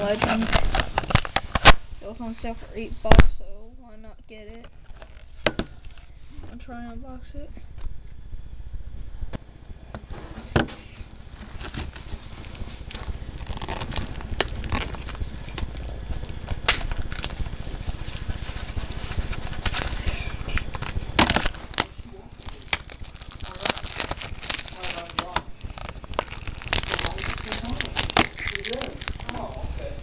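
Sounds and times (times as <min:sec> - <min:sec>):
plastic wrap crinkling: 0:00.0 - 0:03.4, 0:04.6 - 0:06.6, 0:10.2 - 0:30.0.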